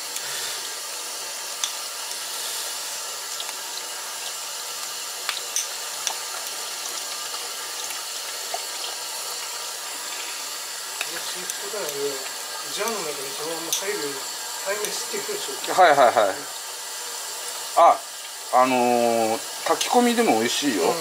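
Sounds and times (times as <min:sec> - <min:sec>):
water running from tap: 0:00.0 - 0:21.0.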